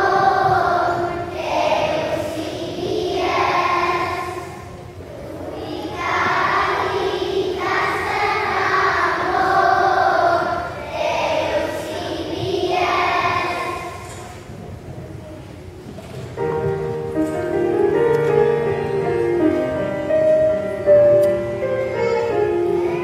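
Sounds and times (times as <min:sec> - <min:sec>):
children's choir singing: 0:00.0 - 0:14.5, 0:16.9 - 0:23.0.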